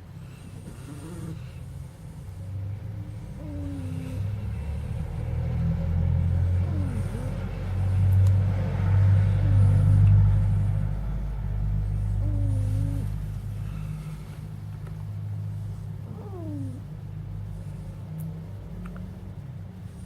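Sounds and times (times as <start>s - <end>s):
puppy snoring: 0.0s - 14.5s, 15.6s - 19.1s.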